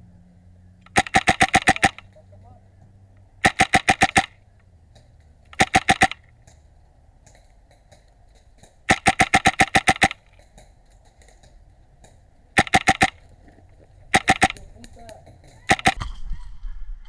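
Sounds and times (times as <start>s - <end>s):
airsoft rifle firing bursts: 0.8s - 16.0s.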